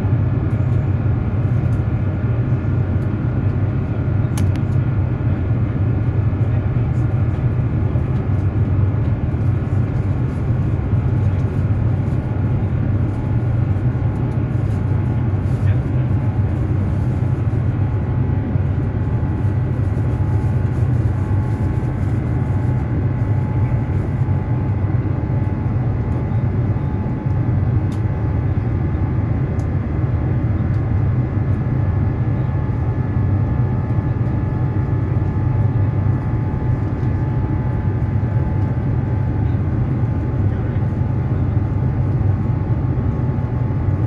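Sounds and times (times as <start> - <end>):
jet engine cabin drone: 0.0 - 44.0.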